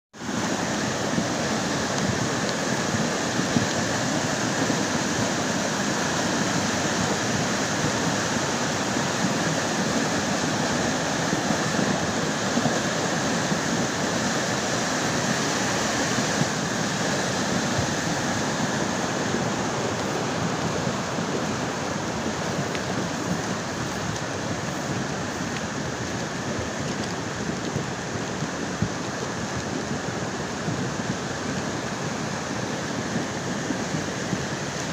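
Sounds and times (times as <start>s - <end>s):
river water rushing: 0.2s - 34.9s.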